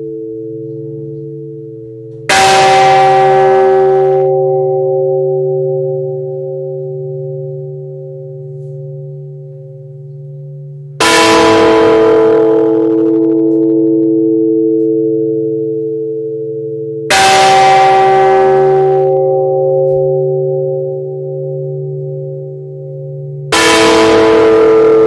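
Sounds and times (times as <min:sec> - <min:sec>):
church bell tolling: 0:00.0 - 0:25.0.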